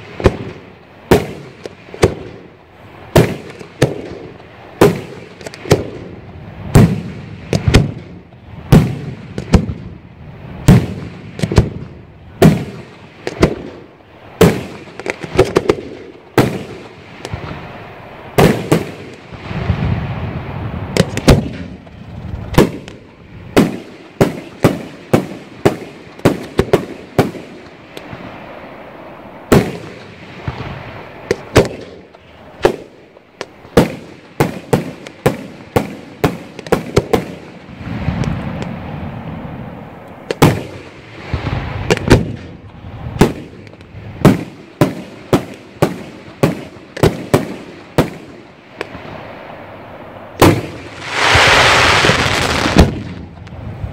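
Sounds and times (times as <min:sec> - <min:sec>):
continuous fireworks rumbling: 0:00.0 - 0:53.9
fireworks bursting with sharp bangs: 0:00.0 - 0:53.9.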